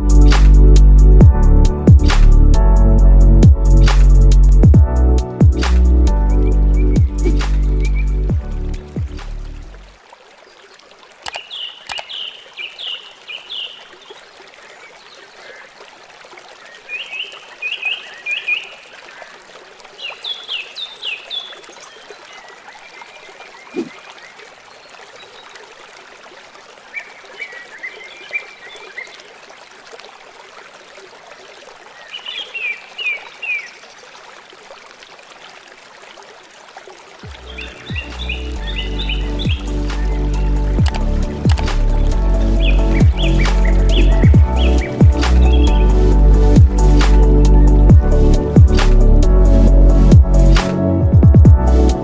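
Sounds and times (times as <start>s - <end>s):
water trickling: 0.0s - 50.8s.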